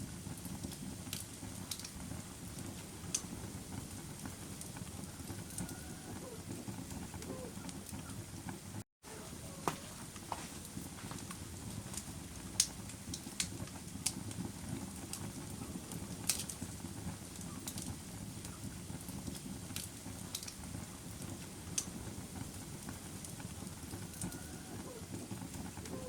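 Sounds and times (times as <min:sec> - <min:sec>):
campfire crackling and popping: 0:00.0 - 0:26.0
low rumble of burning wood: 0:00.0 - 0:26.0.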